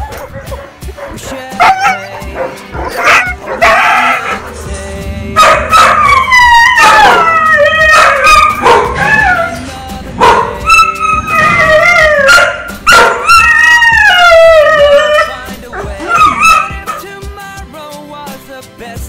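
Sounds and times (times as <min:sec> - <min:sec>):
dogs yipping and crying: 0:00.0 - 0:04.5, 0:05.4 - 0:17.1
music playing: 0:00.0 - 0:19.0.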